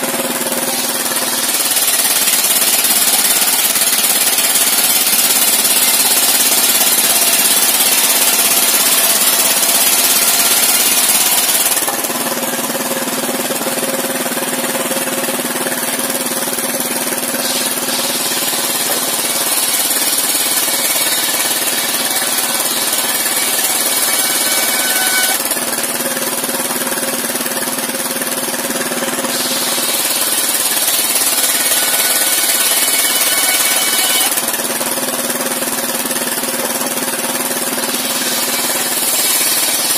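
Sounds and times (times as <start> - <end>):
engine drone: 0.0 - 39.9
saw blade ripping through timber: 0.1 - 13.1, 14.1 - 28.0, 28.6 - 36.3, 37.2 - 39.9.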